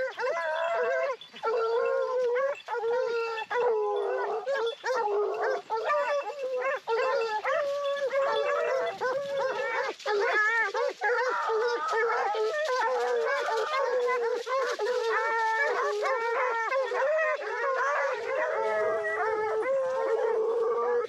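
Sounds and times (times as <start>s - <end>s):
hounds baying: 0.0s - 21.0s.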